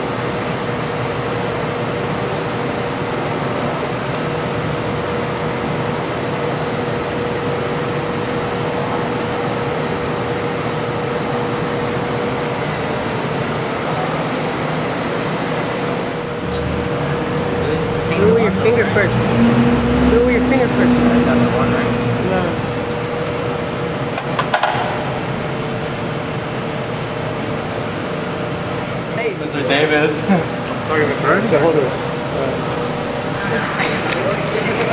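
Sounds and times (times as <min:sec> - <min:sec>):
fan whirring: 0:00.0 - 0:34.9.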